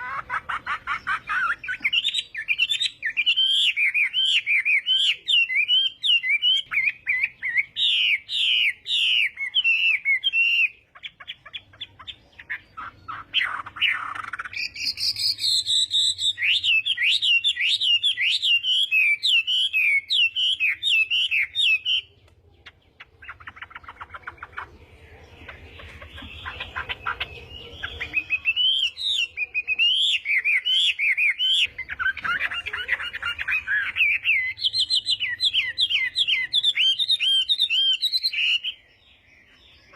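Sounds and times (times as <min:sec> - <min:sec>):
bird singing whistled phrases: 0:00.9 - 0:22.1, 0:26.2 - 0:38.8.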